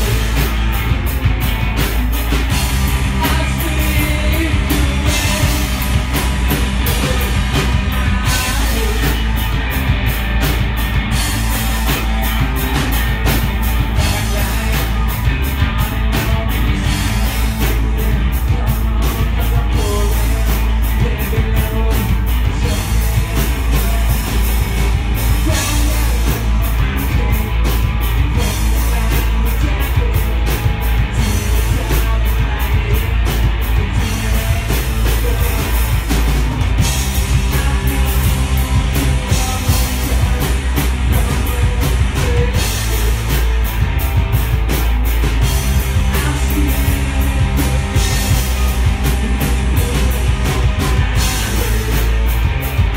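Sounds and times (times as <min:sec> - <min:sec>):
drum kit: 0:00.0 - 0:52.9
electric guitars: 0:00.0 - 0:52.9
person singing: 0:02.8 - 0:09.6, 0:11.3 - 0:43.7, 0:45.8 - 0:52.4.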